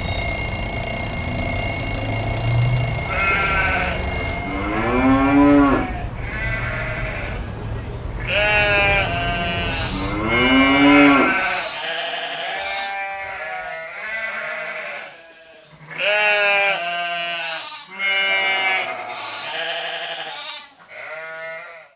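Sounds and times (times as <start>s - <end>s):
sheep bleating: 2.9s - 7.4s, 8.2s - 21.9s.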